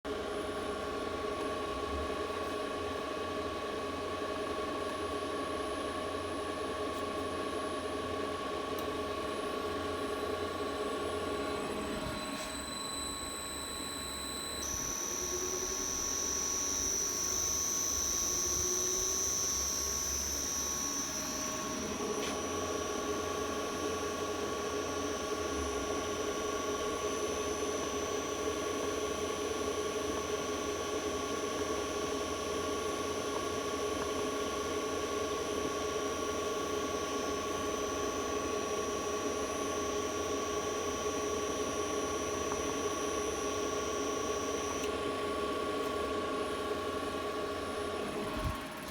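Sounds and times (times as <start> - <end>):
electrical whine of motor drive: 0.1 - 48.9
electrical hum: 0.6 - 33.6, 34.2 - 48.9.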